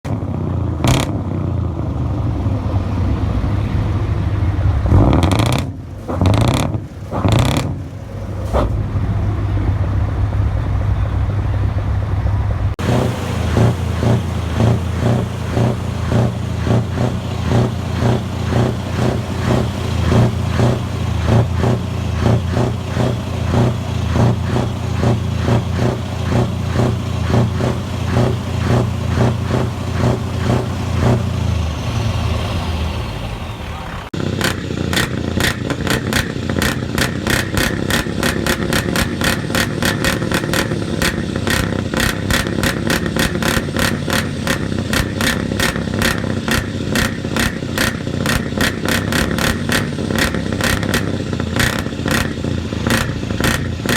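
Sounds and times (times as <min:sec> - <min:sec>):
loud engine pulsing: 0:00.0 - 0:53.9
truck engine idling and revving: 0:00.0 - 0:53.9.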